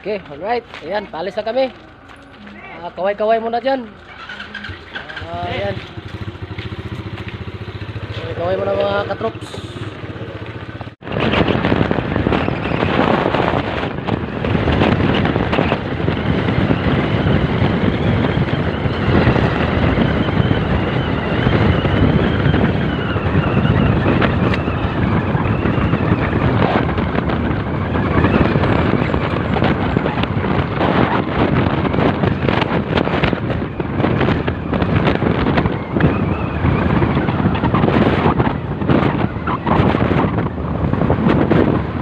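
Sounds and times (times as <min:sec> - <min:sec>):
car engine and tyre noise: 0:00.0 - 0:42.0
wind buffeting microphone: 0:00.0 - 0:42.0.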